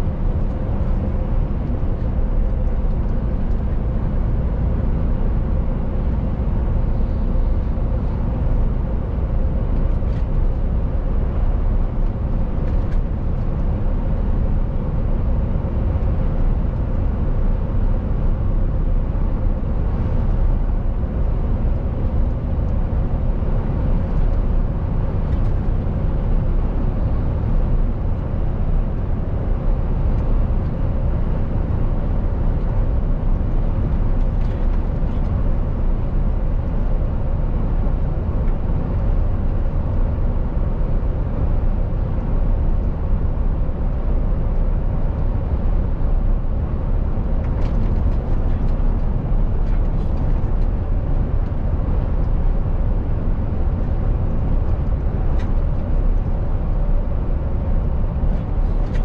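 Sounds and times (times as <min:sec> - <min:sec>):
truck engine drone: 0:00.0 - 0:59.0
tyre and road noise: 0:00.0 - 0:59.0.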